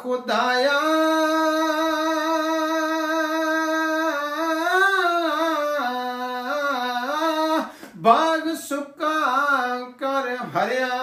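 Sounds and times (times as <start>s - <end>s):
person singing unaccompanied: 0.0s - 11.0s.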